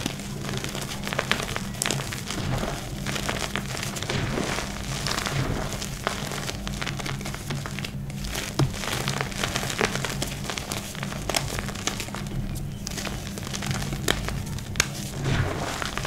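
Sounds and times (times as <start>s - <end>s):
hands crushing dry chalk: 0.0s - 16.0s
quiet background music: 0.0s - 16.0s.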